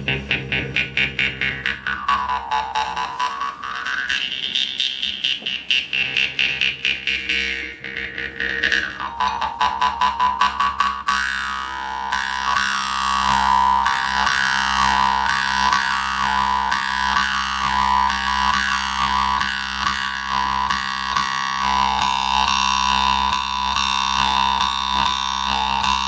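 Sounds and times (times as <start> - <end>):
jaw harp buzzing drone: 0.0 - 26.0.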